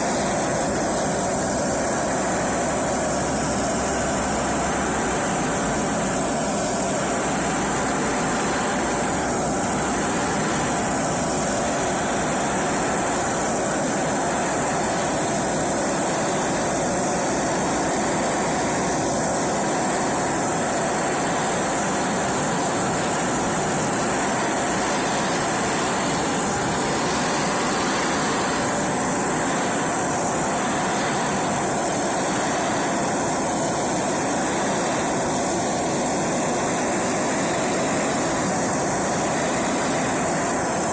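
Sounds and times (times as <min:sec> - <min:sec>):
power tool running: 0:00.0 - 0:40.9.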